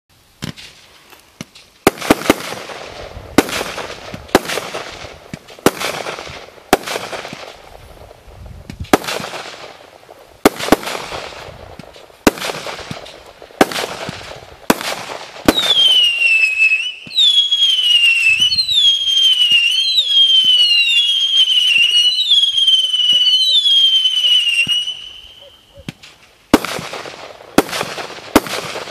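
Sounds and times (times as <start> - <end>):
firework bangs with crackling hiss: 0.3 - 28.9
whistling firework shells: 0.4 - 28.9.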